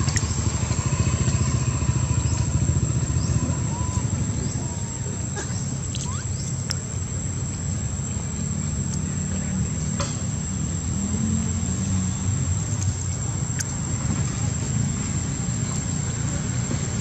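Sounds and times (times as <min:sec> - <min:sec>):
distant traffic rumble: 0:00.0 - 0:17.0
high insect drone: 0:00.0 - 0:17.0.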